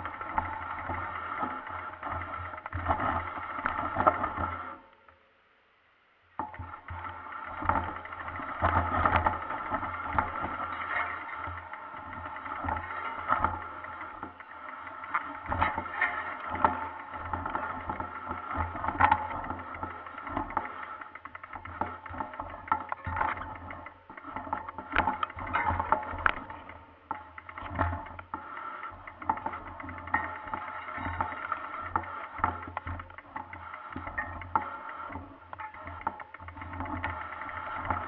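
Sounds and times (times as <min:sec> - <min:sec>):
mountain bike rattling: 0:00.0 - 0:04.9, 0:06.4 - 0:38.0.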